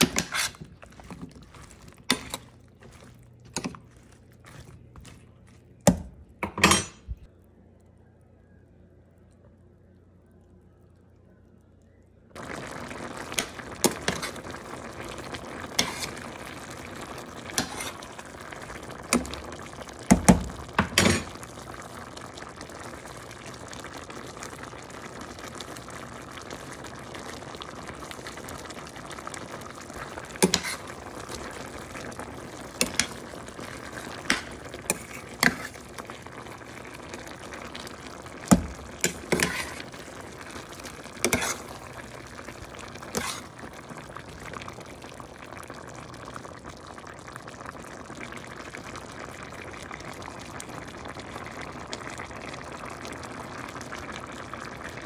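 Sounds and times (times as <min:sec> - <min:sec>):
food sizzling in a pan: 0:00.0 - 0:06.1, 0:12.4 - 0:55.0.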